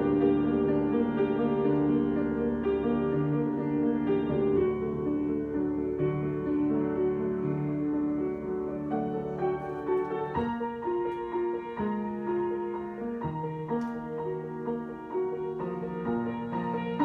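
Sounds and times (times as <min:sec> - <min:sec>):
piano improvisation: 0:00.0 - 0:17.0.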